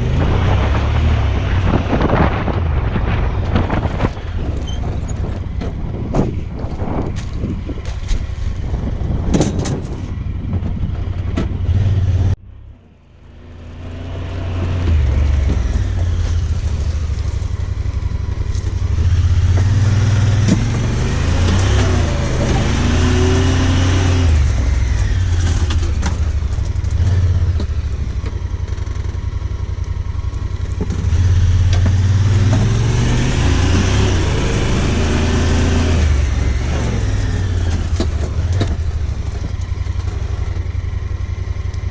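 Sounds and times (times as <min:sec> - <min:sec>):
vehicle engine driving: 0:00.0 - 0:41.9.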